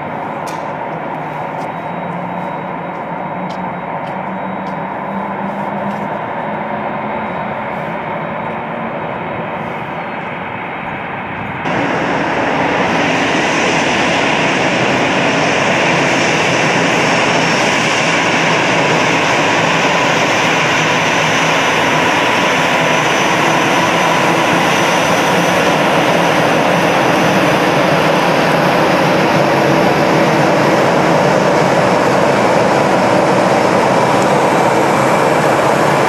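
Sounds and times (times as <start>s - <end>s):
jet engines taxiing: 0.0s - 36.0s.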